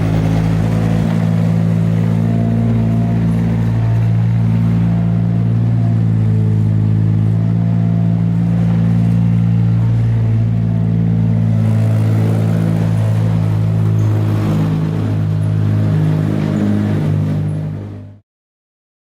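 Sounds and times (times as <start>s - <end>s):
low engine-like hum: 0.0s - 18.2s.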